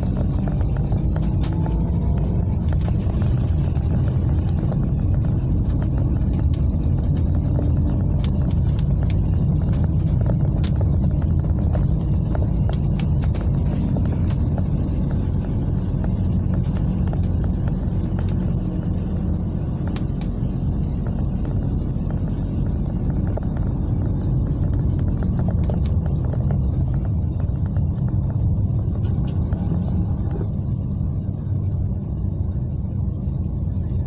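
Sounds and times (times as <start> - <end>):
rain ticking on windshield: 0.0 - 31.0
car engine and tyres rumbling: 0.0 - 34.0.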